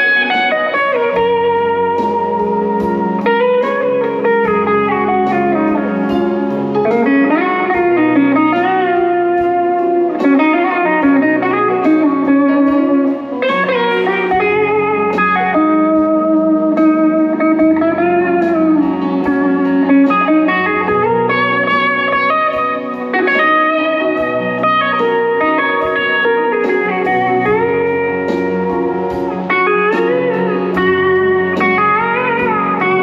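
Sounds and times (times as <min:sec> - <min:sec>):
low accompaniment: 0:00.0 - 0:33.0
slide blues guitar: 0:00.0 - 0:33.0.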